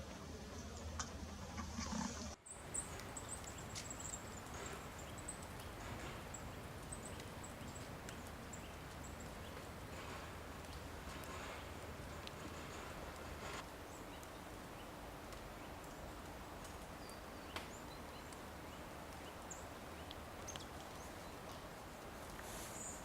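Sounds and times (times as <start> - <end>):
outdoor background hiss: 0.0 - 23.0
small birds calling: 0.4 - 23.0.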